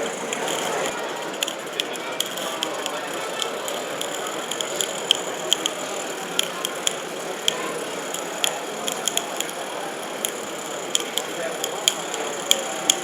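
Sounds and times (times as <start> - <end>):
model tram metallic clicks: 0.0 - 13.0.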